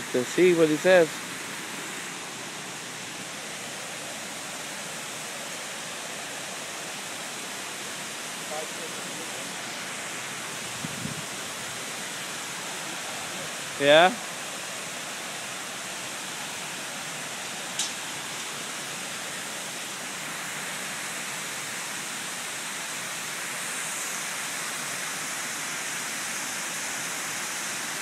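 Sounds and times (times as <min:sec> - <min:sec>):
rushing hiss of spraying foam: 0:00.0 - 0:28.0.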